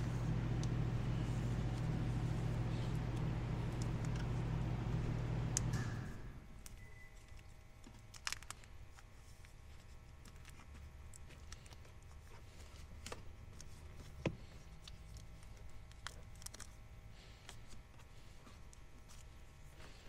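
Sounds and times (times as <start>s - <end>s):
low steady hum: 0.0s - 20.0s
tape clicks and rustles: 0.1s - 4.8s, 6.6s - 20.0s.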